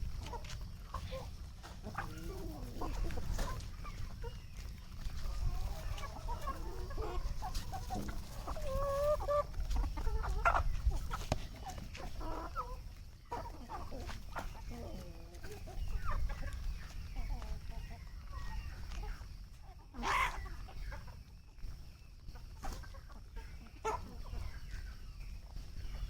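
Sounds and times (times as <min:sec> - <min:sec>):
chickens clucking and calling: 0:00.0 - 0:26.0.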